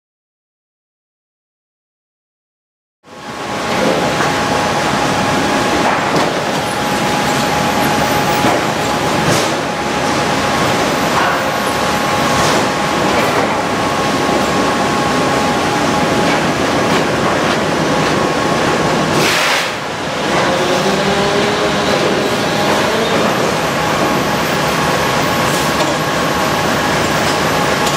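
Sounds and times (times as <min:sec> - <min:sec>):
machine hum with whining tones: 0:03.1 - 0:27.9.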